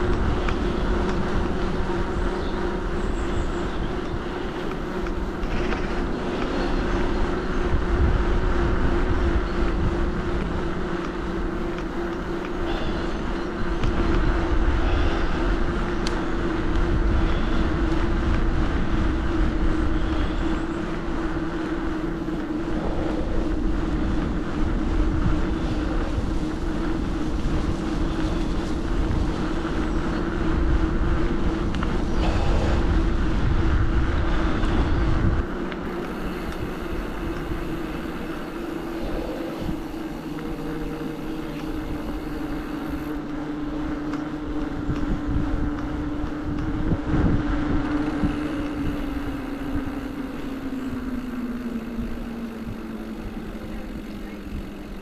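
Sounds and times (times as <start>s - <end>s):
steady hum: 0.0s - 55.0s
tyre noise on paved path: 0.0s - 55.0s
wind buffeting microphone: 0.0s - 55.0s.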